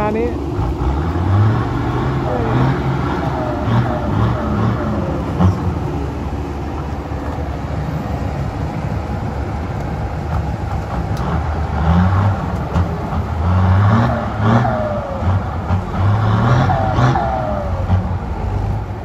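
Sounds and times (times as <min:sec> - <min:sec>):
dump truck engine straining: 0:00.0 - 0:19.0
excavator diesel engine under load: 0:00.0 - 0:19.0.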